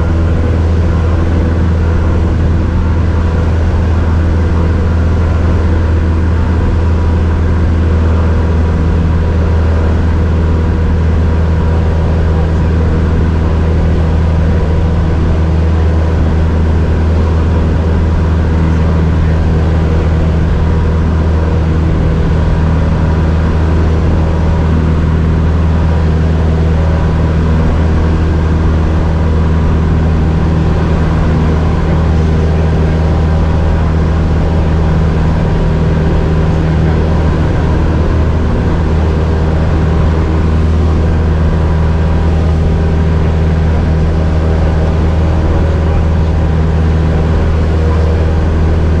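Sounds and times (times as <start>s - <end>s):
airplane piston engine and propeller: 0.0s - 49.0s.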